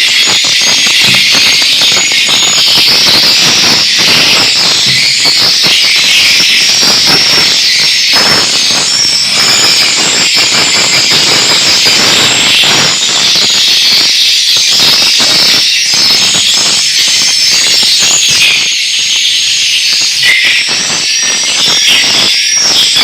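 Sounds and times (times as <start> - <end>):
crackling: 0.0 - 23.0
swiftlets twittering and chirping: 0.0 - 23.0.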